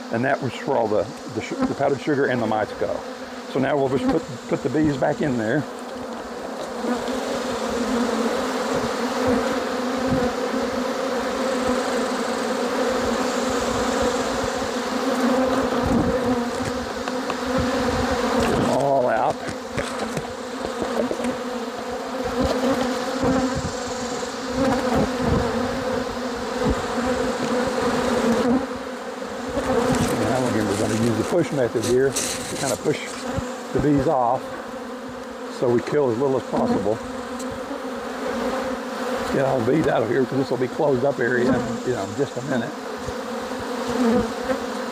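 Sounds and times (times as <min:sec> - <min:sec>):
honey bees buzzing: 0:00.0 - 0:44.9.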